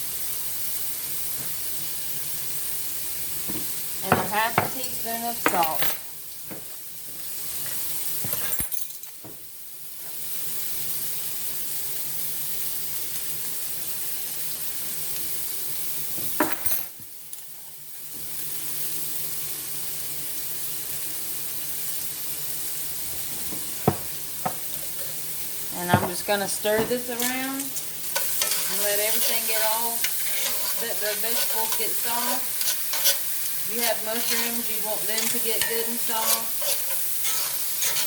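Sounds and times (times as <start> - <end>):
onion and garlic sizzling in skillet: 0.0 - 38.0.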